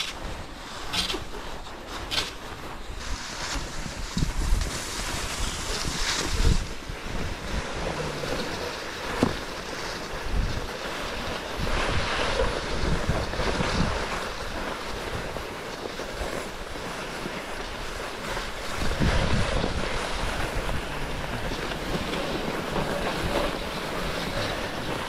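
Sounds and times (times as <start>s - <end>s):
skis gliding on snow: 0.0s - 25.0s
wind rumbling on microphone: 0.0s - 25.0s.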